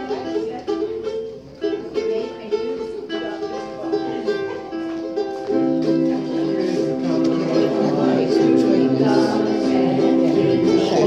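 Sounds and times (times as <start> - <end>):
ukulele band strumming: 0.0 - 11.0.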